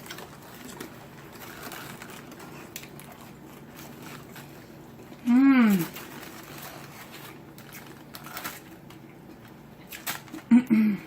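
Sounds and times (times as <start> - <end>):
clicks and rustles of eating: 0.0 - 10.7.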